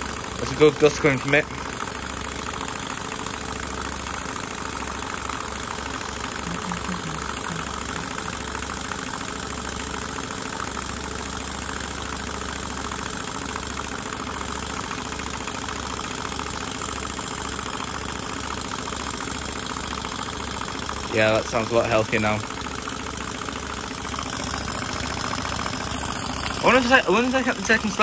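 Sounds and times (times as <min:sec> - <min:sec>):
model steam engine running: 0:00.0 - 0:28.0.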